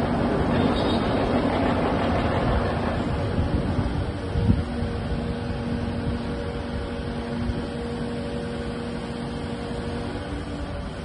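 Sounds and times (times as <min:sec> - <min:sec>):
excavator diesel engine running: 0:00.0 - 0:11.0
whining hum: 0:00.0 - 0:11.0.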